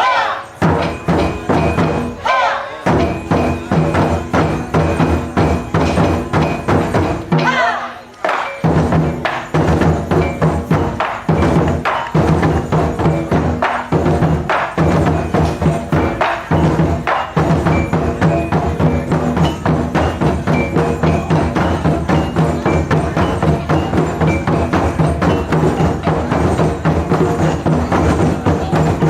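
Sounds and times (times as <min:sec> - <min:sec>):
drum ensemble playing: 0:00.0 - 0:29.0.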